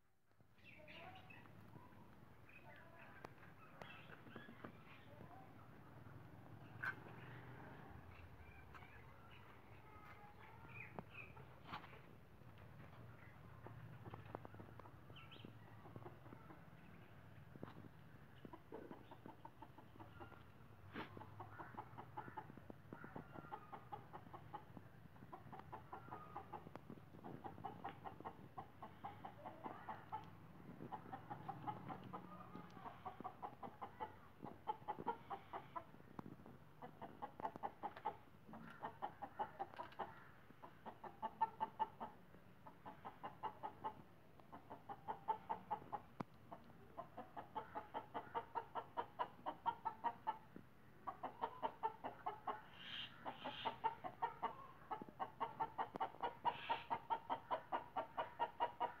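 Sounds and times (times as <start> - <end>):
chickens clucking: 2.5 - 59.0.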